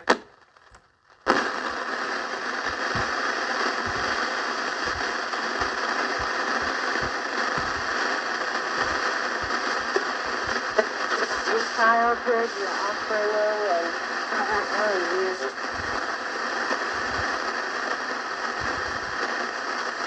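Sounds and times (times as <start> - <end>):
low pops: 0.0 - 20.0
radio static hiss: 0.0 - 20.0.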